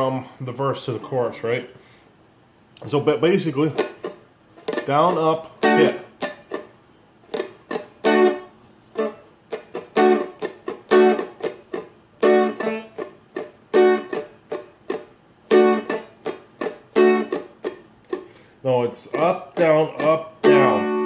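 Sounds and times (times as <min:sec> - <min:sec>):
strumstick strummed chords: 0:03.5 - 0:06.7, 0:07.3 - 0:21.0.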